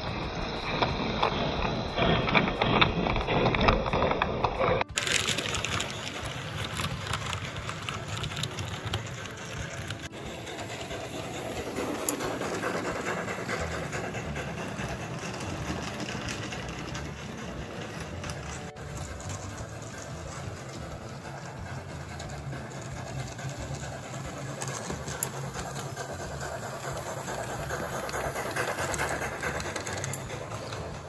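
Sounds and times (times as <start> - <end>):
model train wheels clattering: 0.0 - 31.0.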